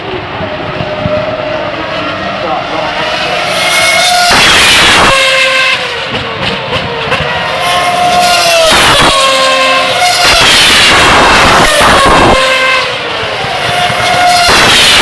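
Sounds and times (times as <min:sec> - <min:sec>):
racing cars passing at high revs: 0:00.2 - 0:15.0.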